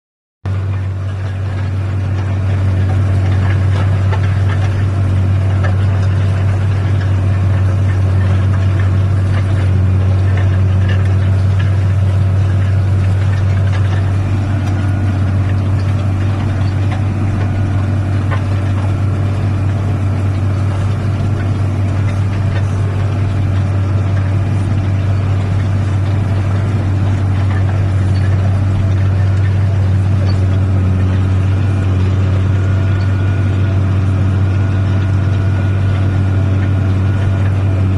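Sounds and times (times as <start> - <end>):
tractor engine droning: 0.5 - 37.9.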